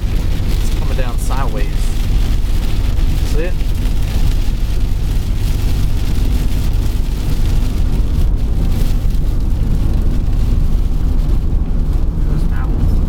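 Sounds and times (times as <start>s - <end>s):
rain and spray hissing on car: 0.0s - 13.0s
tyre and engine rumble: 0.0s - 13.0s.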